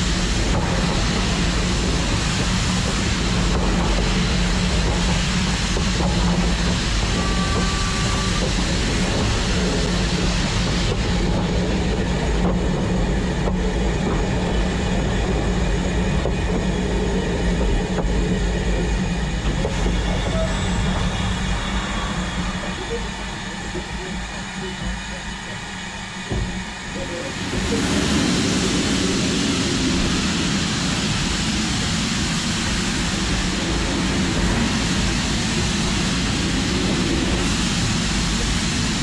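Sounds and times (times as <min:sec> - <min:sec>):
steam locomotive rumble and hiss: 0:00.0 - 0:39.0.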